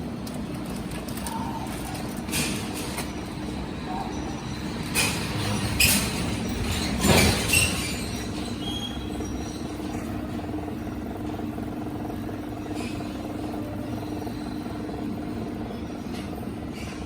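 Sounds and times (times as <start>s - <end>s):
band sealer machine humming: 0.0s - 17.0s.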